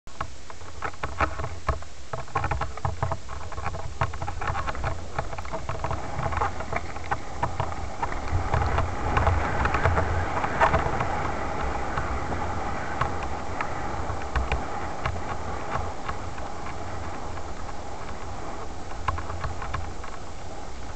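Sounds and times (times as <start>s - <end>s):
bike rattling: 0.1s - 20.9s
bike tyres crunching over stones: 0.2s - 20.9s
wind buffeting microphone: 0.5s - 20.9s.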